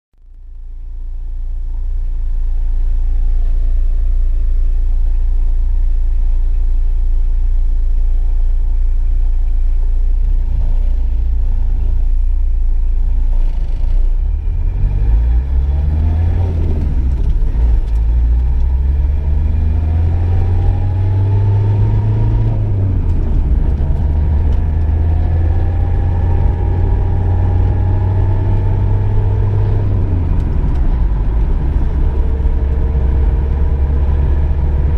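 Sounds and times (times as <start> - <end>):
car engine: 0.2 - 34.9
road rumble: 0.2 - 34.9.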